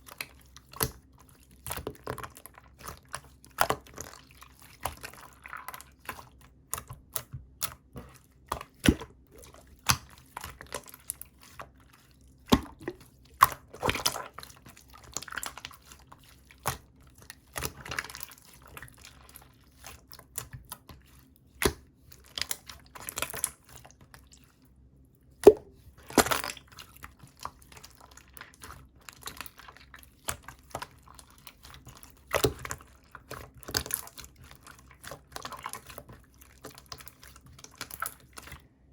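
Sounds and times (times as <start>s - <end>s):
slime squishing: 0.0s - 38.9s.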